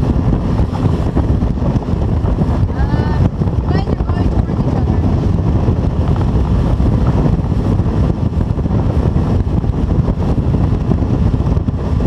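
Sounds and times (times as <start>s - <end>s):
motorboat rushing through water: 0.0s - 12.0s
wind buffeting microphone: 0.0s - 12.0s.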